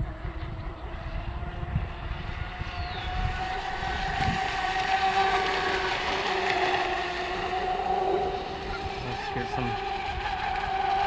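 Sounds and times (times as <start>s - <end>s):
boat motor whine: 0.0s - 11.0s
wind rumble on microphone: 0.0s - 11.0s.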